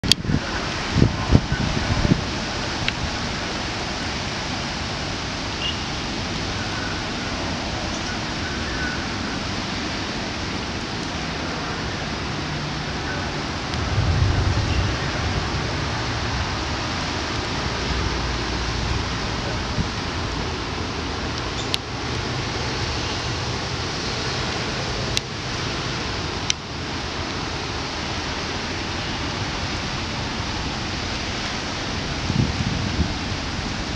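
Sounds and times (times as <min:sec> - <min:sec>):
rain falling on floodwater: 0:00.0 - 0:33.9.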